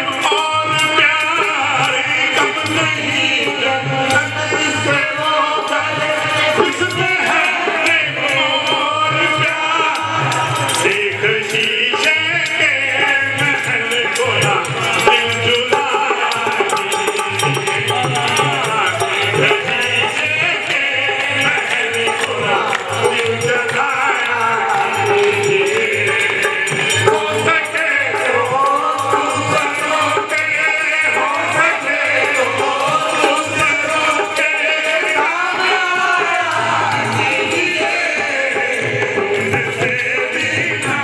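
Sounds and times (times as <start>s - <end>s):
man singing into microphone: 0.0s - 41.0s
rattling hand percussion: 0.0s - 41.0s
voices singing along: 0.0s - 41.0s.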